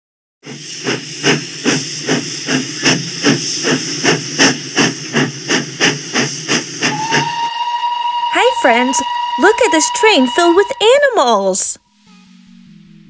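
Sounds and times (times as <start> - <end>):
steam hissing: 0.4 - 12.0
steam locomotive chuffs: 0.4 - 13.0.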